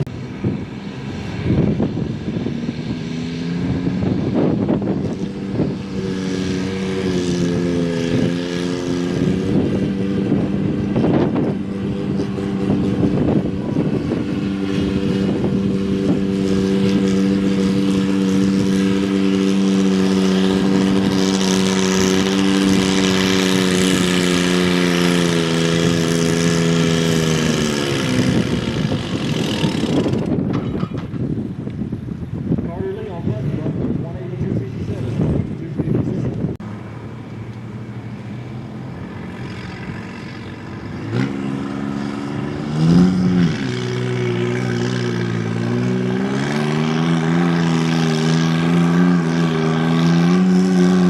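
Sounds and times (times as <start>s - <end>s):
tractor engine at high revs: 0.0s - 51.0s.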